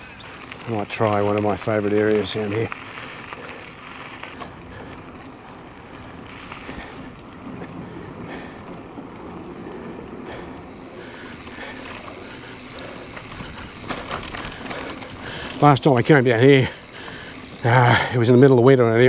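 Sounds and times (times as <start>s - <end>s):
tyres rolling over track: 0.0s - 19.0s.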